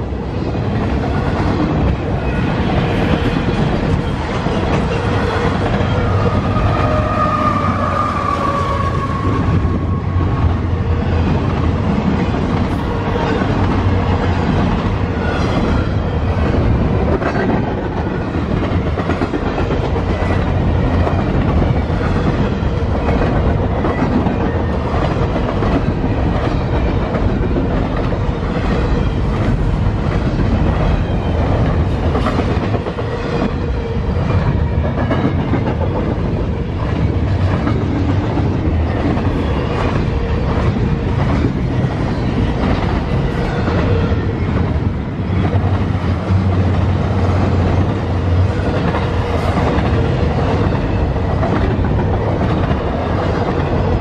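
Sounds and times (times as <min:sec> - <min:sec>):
freight train rumbling past: 0:00.0 - 0:54.0
train wheels clicking on rails: 0:00.0 - 0:54.0.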